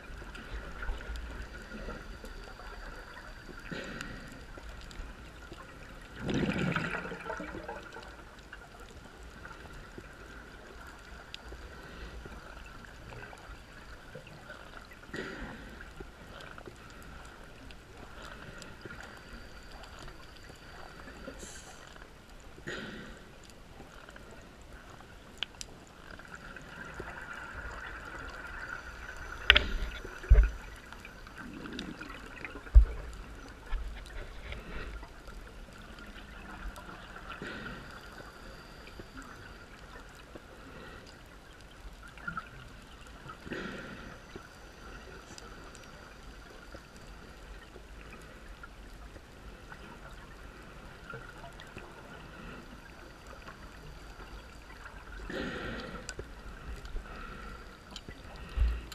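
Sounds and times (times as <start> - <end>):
steady hiss: 0.0 - 58.9
underwater bubbles gurgling: 0.0 - 58.9.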